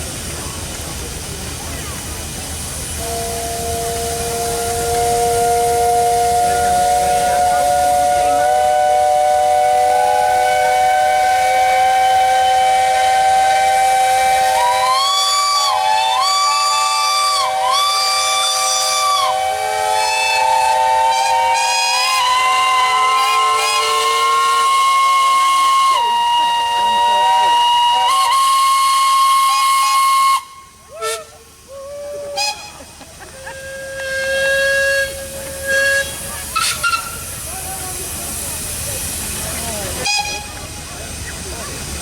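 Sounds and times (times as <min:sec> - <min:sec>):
steam whistles sounding together: 0:02.8 - 0:37.5, 0:40.0 - 0:40.6.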